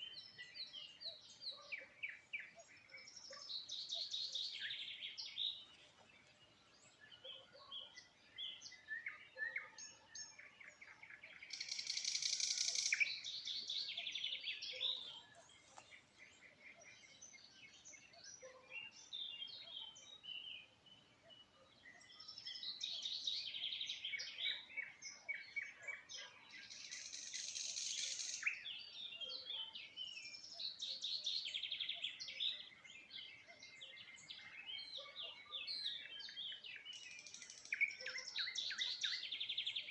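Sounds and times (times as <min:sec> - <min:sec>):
songbirds chirping: 0:00.0 - 0:39.9
trilled birdsong: 0:00.0 - 0:39.9.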